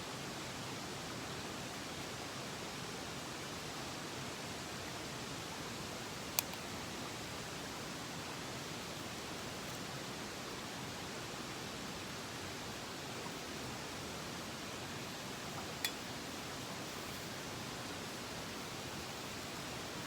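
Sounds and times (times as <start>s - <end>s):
mountain stream rushing: 0.3s - 20.0s.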